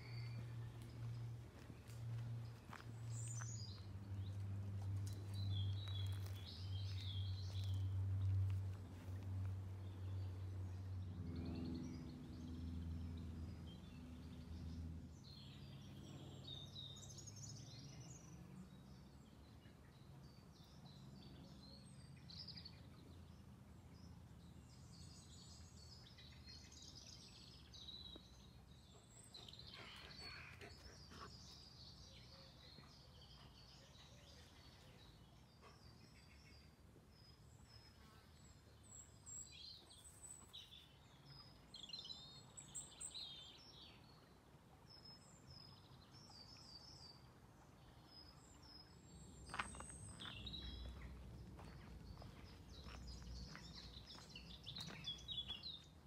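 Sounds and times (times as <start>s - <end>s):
woodland birdsong: 0.0s - 56.0s.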